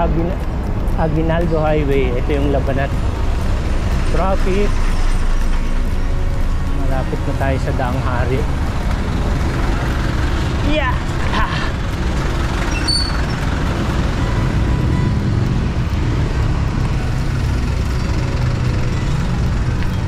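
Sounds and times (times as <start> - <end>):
traffic engines rumbling: 0.0 - 20.0.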